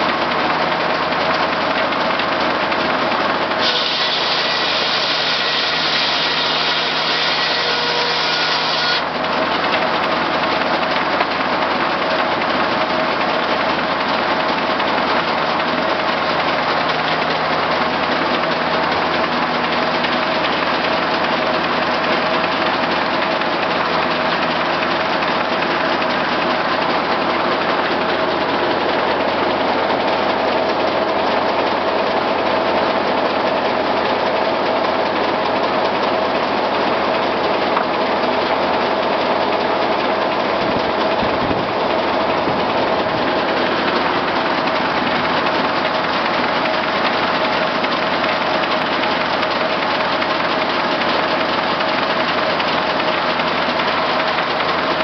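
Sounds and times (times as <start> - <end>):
saw blade whining through log: 0.0 - 31.3, 35.9 - 55.0
sawmill engine running: 0.0 - 55.0.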